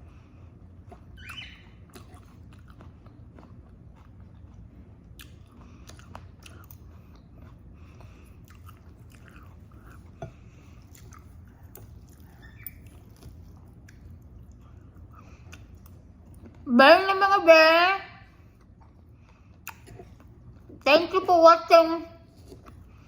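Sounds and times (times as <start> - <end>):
person chewing food: 0.0 - 16.7, 18.2 - 20.8, 22.3 - 23.0
low steady hum: 0.0 - 23.0.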